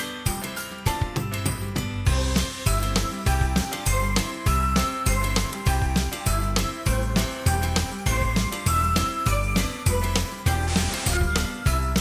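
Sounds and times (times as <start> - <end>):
music with heavy beat: 0.3 - 12.0
chiming bell-like notes: 2.1 - 12.0.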